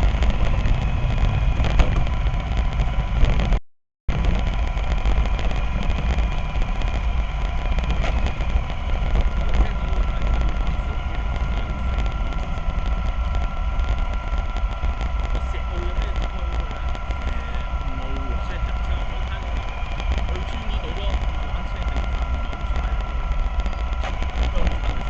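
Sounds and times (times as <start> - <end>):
electric motor whine: 0.0 - 25.0
higher whine: 0.0 - 25.0
low rumble: 0.0 - 25.0.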